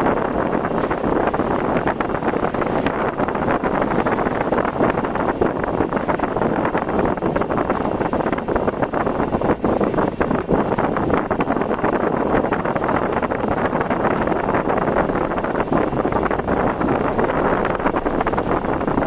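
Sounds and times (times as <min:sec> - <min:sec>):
road noise: 0:00.0 - 0:19.0
wind rushing over vehicle: 0:00.0 - 0:19.0.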